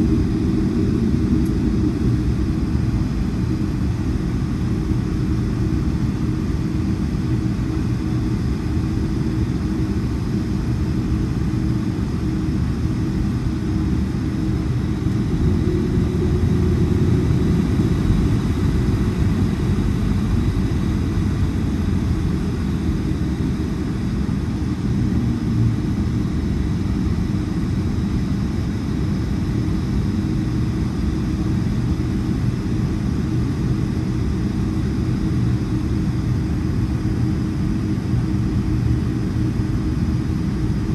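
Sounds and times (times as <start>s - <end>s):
aircraft engines rumbling in cabin: 0.0s - 40.9s.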